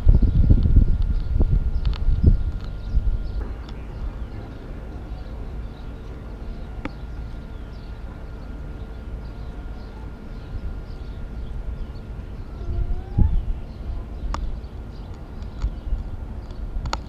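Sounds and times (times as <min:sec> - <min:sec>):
faint hum: 0:00.0 - 0:17.0
low rumble: 0:00.0 - 0:17.0.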